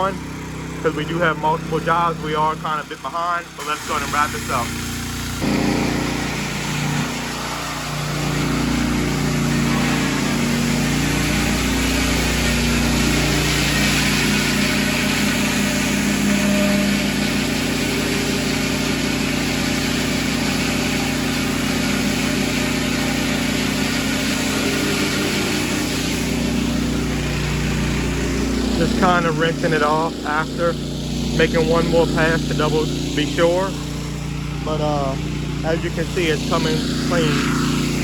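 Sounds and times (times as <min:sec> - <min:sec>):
pressure washer engine running: 0:00.0 - 0:38.0
water jet hissing on concrete: 0:00.0 - 0:38.0.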